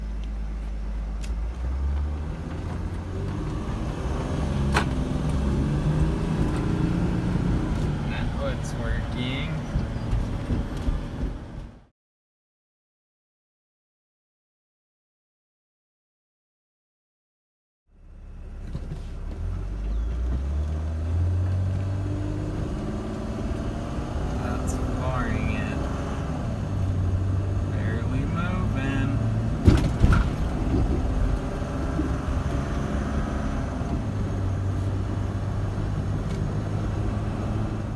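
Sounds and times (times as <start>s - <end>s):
diesel engine running: 0.0s - 11.9s, 17.9s - 37.9s.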